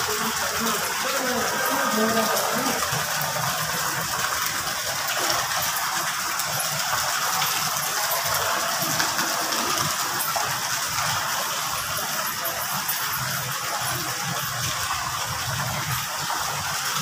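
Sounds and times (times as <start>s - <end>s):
water splashing and trickling: 0.0s - 17.0s.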